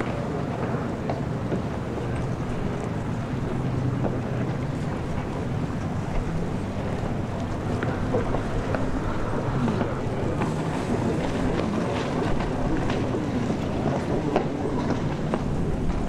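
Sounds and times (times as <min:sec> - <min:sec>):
jet ski engines: 0:00.0 - 0:16.0
wind buffeting microphone: 0:00.0 - 0:16.0.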